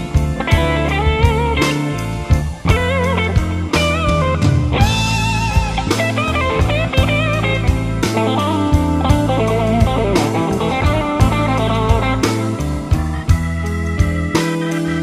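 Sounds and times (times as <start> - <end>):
bass guitar: 0.0 - 15.0
electric guitar solo: 0.0 - 15.0
steady drum beat: 0.0 - 15.0.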